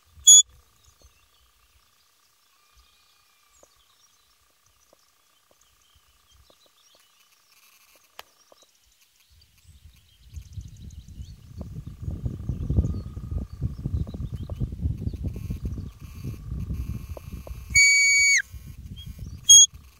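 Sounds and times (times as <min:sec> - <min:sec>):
faint distant birdsong: 0:00.0 - 0:19.7.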